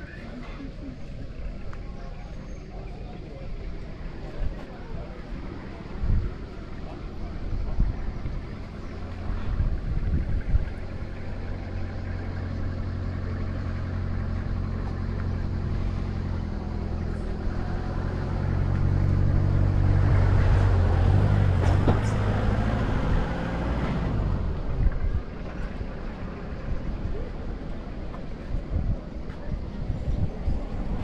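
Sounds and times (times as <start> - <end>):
motor engine humming: 3.1 - 31.0.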